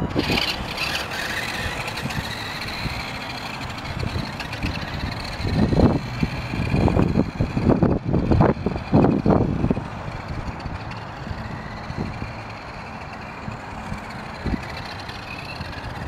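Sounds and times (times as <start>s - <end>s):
toy truck motor whining: 0.0s - 16.0s.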